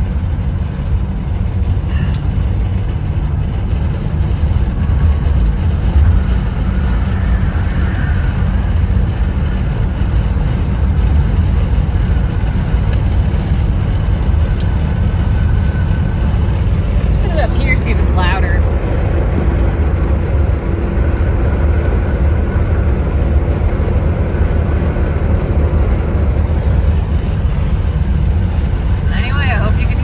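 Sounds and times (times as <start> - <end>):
car engine rumble: 0.0 - 30.0
road noise inside car: 0.0 - 30.0.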